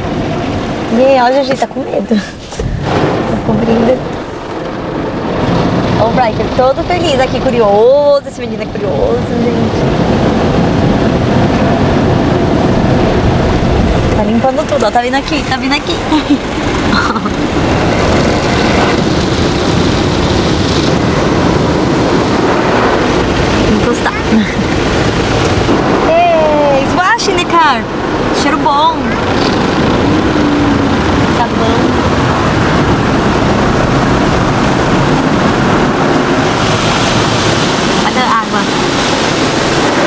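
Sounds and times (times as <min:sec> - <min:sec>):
car wash brushes and water rushing: 0:00.0 - 0:40.0.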